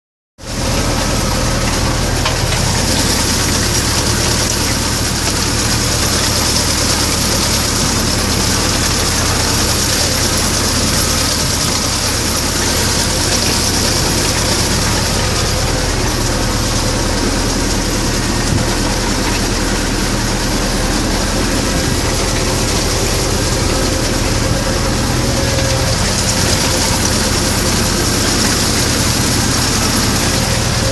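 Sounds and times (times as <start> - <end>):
tractor diesel engine running: 0.4 - 30.9.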